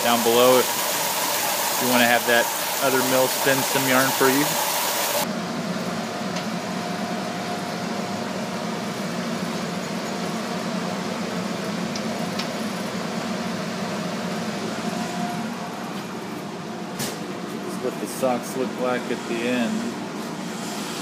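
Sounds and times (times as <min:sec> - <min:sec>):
machinery humming and whirring: 0:00.0 - 0:21.0.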